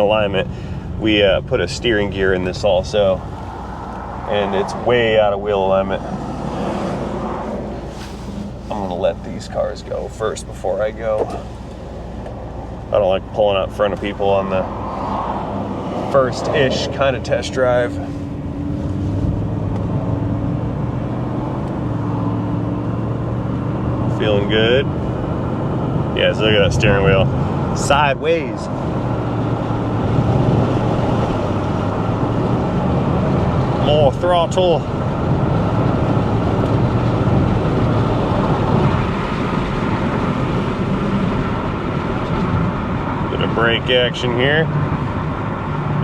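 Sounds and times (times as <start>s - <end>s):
car engine running: 0.0s - 46.0s
road noise: 0.0s - 46.0s.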